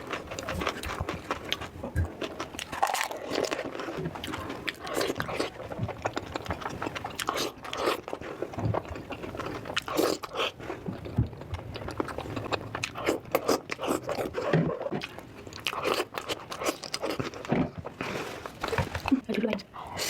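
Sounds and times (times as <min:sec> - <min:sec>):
crunchy food being chewed: 0:00.0 - 0:19.2.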